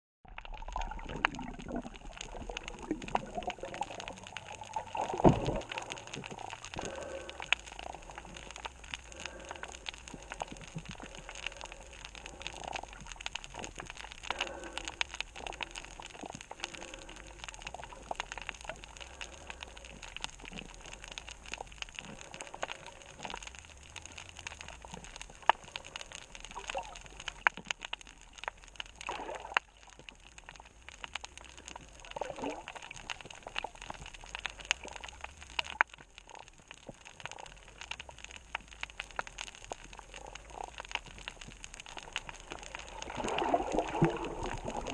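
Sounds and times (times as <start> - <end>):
underwater crackle of clicks: 0.3 - 44.9.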